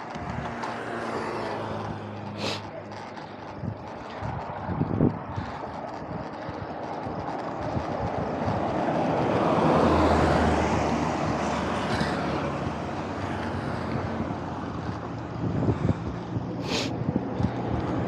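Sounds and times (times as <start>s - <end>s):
lorry engine passing: 0.0s - 18.0s
wind and road noise: 0.0s - 18.0s.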